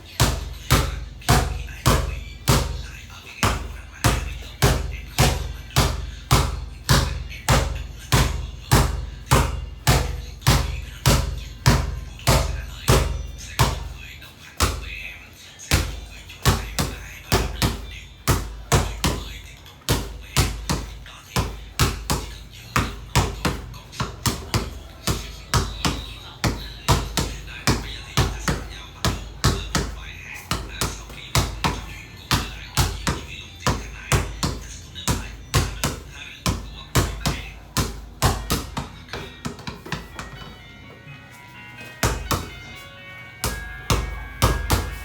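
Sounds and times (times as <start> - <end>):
basketball bouncing on hard floor: 0.1 - 14.0, 14.6 - 15.1, 15.7 - 40.5, 42.0 - 42.6, 43.4 - 45.0.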